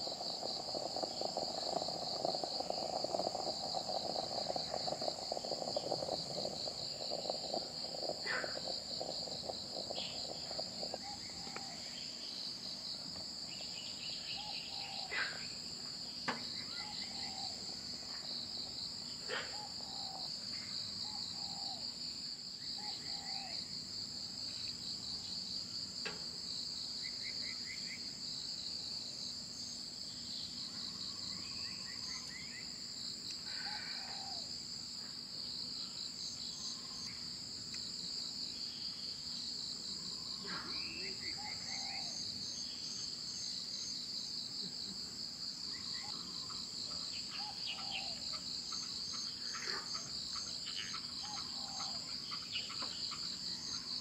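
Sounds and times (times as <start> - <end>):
higher steady insect trill: 0.0 - 54.0
insects trilling chorus: 0.0 - 54.0.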